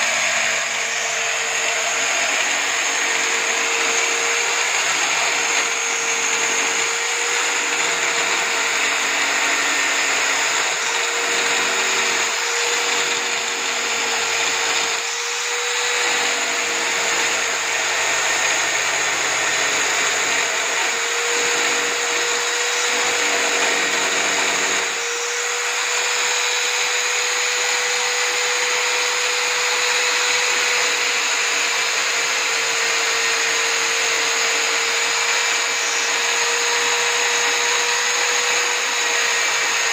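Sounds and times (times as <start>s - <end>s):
electric drill motor whine: 0.0s - 39.9s
wood sanding: 0.0s - 39.9s.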